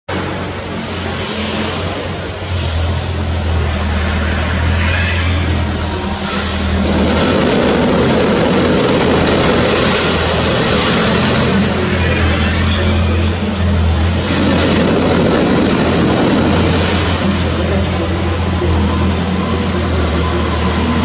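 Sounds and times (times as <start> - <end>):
train approaching: 0.1 - 21.0.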